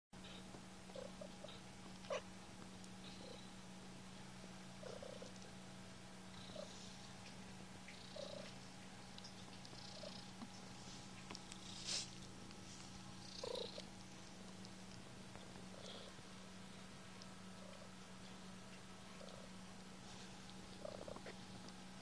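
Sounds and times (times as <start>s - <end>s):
cat purring: 0.2s - 22.0s.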